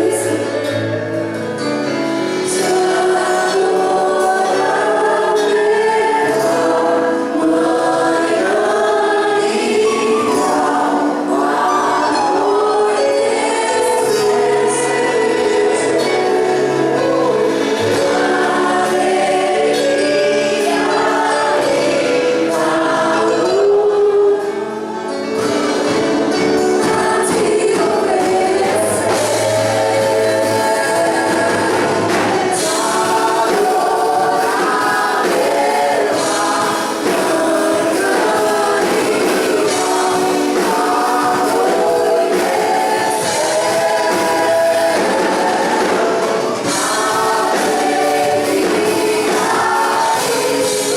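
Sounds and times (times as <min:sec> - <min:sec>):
group singing a worship song: 0:00.0 - 0:50.9
instrumental accompaniment: 0:00.0 - 0:50.9.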